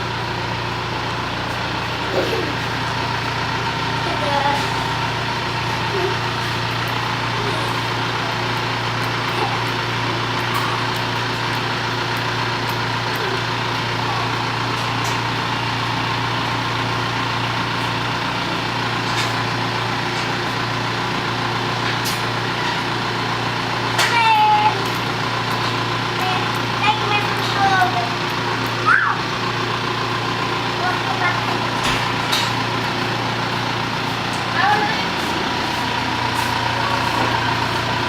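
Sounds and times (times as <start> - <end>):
engine-like hum: 0.0 - 38.0.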